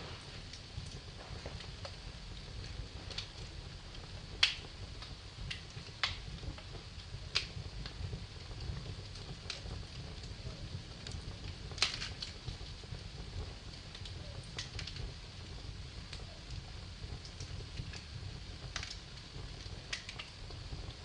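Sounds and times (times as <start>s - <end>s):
low steady rumble: 0.0s - 21.0s
sharp fire pops: 0.0s - 21.0s
wood fire crackling: 0.0s - 21.0s.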